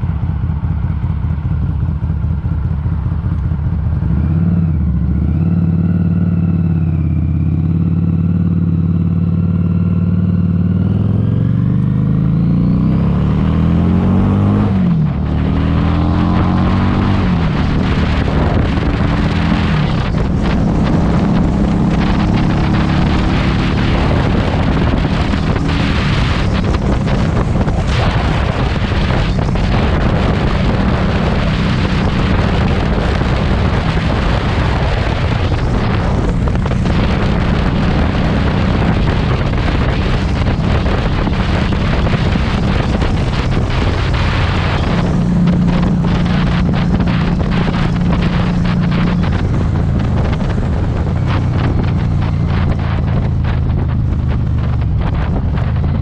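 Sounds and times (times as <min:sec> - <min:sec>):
motorcycle engine: 0:00.0 - 0:56.0
wind noise on microphone: 0:03.6 - 0:56.0.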